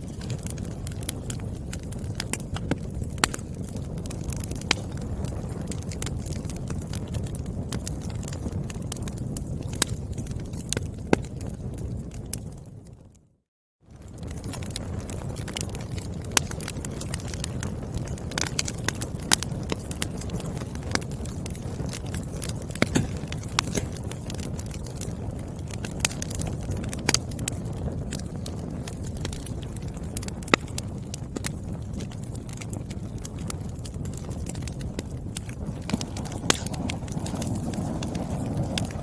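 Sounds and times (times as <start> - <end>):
wood fire crackling: 0.0 - 13.2, 13.9 - 39.0
fire popping: 0.0 - 13.3, 13.9 - 39.0
low rumble of flame: 0.0 - 39.0.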